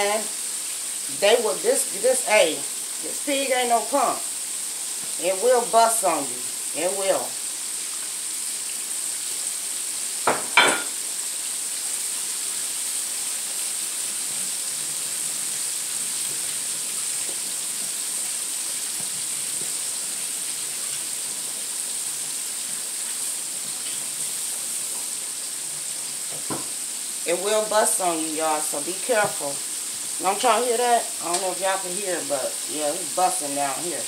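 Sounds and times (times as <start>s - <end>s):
food deep-frying in oil: 0.0s - 34.0s.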